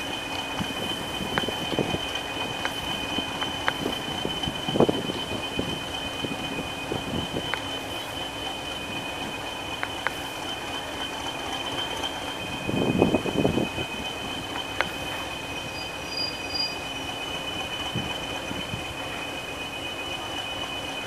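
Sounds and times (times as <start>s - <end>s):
train high-pitched squeal: 0.0s - 21.0s
train rumble: 0.0s - 21.0s.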